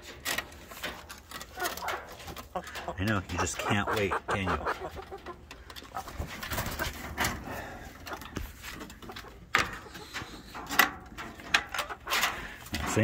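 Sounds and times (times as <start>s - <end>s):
hens clucking softly: 1.4s - 12.9s.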